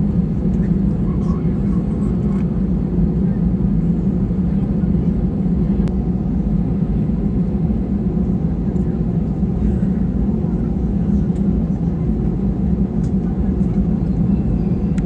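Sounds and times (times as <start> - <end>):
airplane cabin rumble and hum: 0.0 - 15.0.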